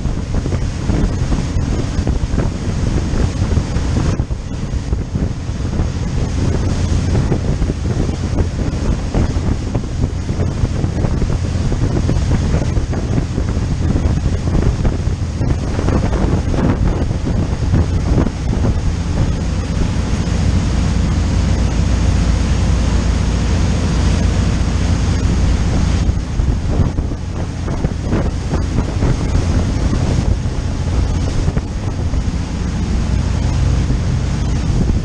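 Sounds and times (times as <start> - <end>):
low engine hum: 0.0 - 35.0
water rushing in boat wake: 0.0 - 35.0
wind noise on microphone: 0.0 - 35.0.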